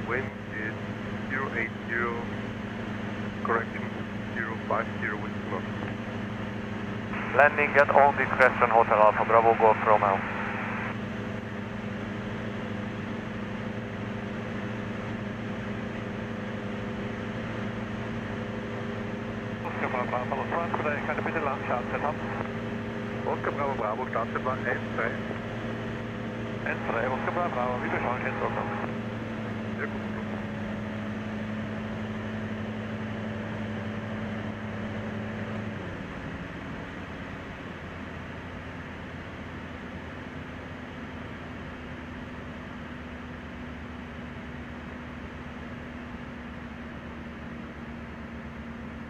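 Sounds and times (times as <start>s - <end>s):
light aircraft engine drone: 0.0s - 49.0s.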